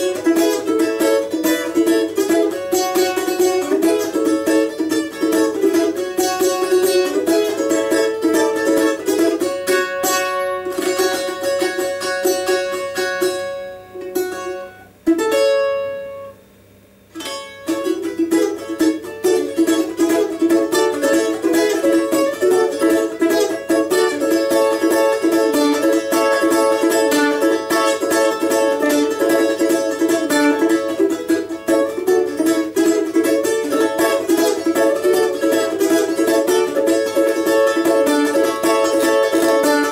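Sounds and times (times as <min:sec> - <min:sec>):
balalaika chord ringing out: 0:00.0 - 0:16.4, 0:17.1 - 0:39.9
balalaika strumming: 0:00.0 - 0:39.9.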